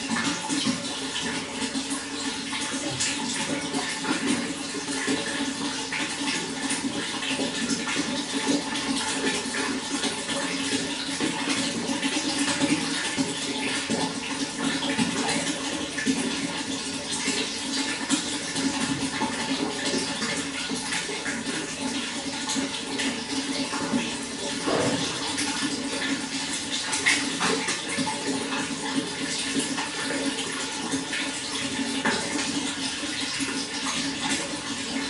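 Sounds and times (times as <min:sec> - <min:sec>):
running water with splashes: 0:00.0 - 0:35.0.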